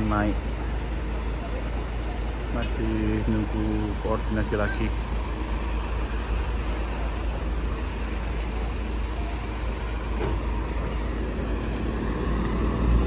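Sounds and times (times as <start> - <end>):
truck and car engines running: 0.0 - 13.0.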